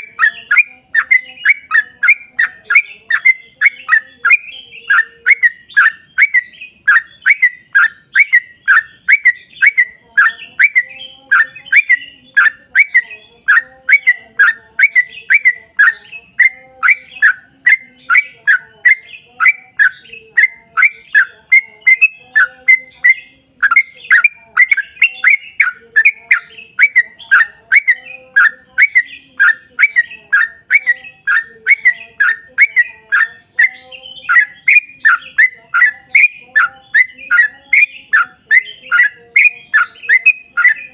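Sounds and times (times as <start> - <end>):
bird singing bubbly notes: 0.0 - 40.9.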